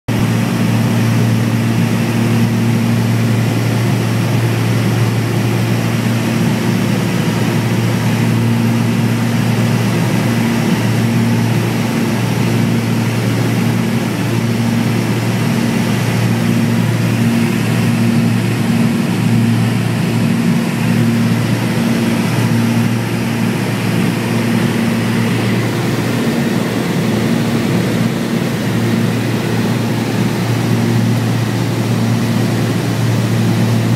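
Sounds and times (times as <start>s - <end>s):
airplane engine and propeller droning: 0.1s - 33.9s.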